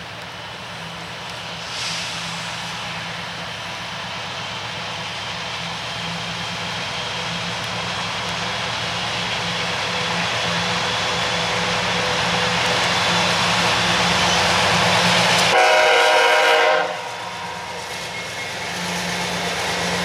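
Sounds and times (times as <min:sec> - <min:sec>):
freight train locomotives throbbing: 0:00.0 - 0:20.0.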